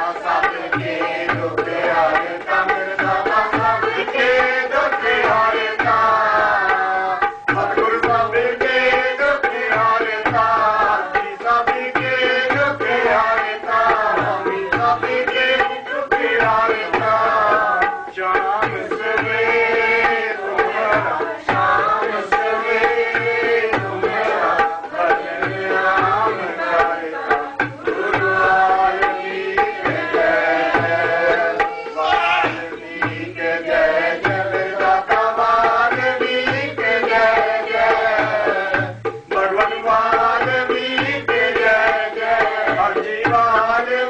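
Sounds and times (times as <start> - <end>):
devotional singing: 0.0 - 44.0
tabla beat: 0.0 - 44.0.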